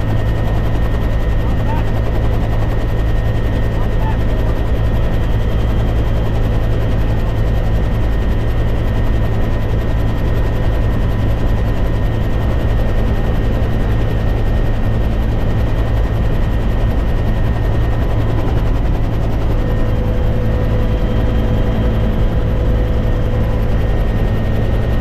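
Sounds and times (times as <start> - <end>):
helicopter rotor and engine rumble: 0.0 - 25.0.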